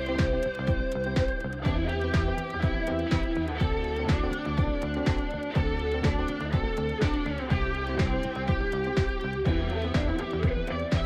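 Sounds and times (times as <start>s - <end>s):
background music with beat: 0.0s - 11.0s
low drum thump: 0.0s - 11.0s.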